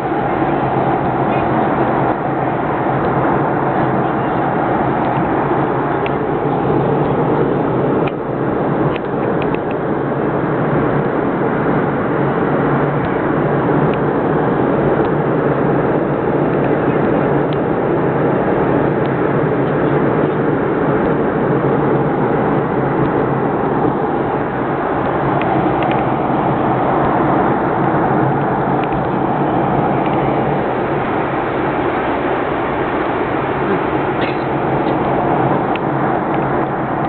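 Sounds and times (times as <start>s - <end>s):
jet engine drone: 0.0s - 37.0s
rushing air: 0.0s - 37.0s.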